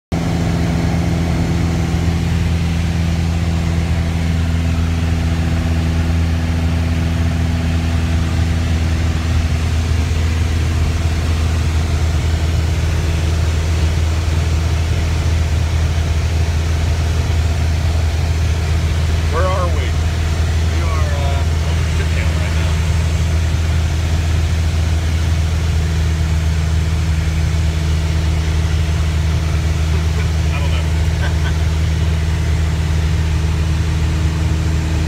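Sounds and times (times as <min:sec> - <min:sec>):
small plane engine and propeller drone: 0:00.1 - 0:35.0.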